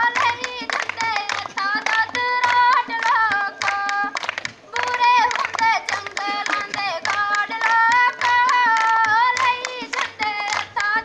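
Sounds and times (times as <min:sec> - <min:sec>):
girls singing folk song: 0:00.0 - 0:11.0
hand drum beats: 0:00.0 - 0:11.0.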